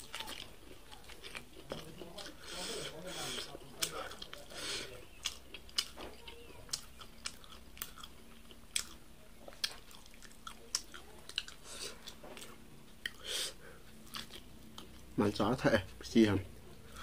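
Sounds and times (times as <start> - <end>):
person chewing corn: 0.0 - 15.2.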